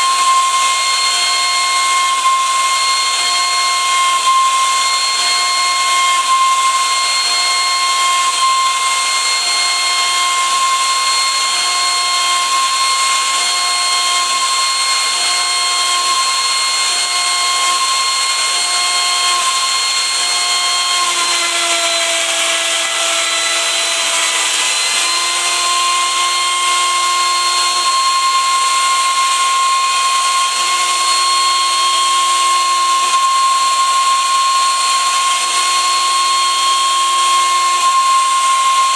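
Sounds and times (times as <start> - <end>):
cutting noise: 0.0 - 38.9
router spindle whining: 0.0 - 38.9.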